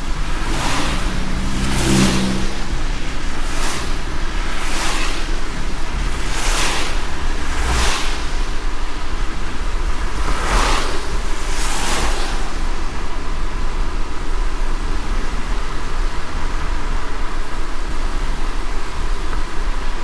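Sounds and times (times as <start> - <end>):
rain hiss: 0.0 - 20.0
road rumble inside car: 0.0 - 20.0
windshield wiper swishes: 0.0 - 20.0.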